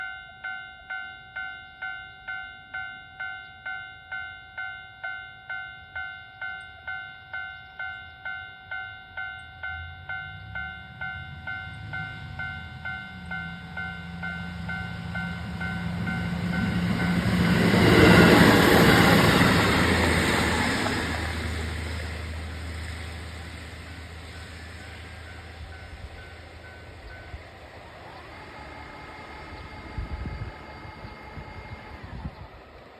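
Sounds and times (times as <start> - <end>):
level crossing warning bell: 0.0 - 32.1
diesel train approaching: 0.0 - 32.9.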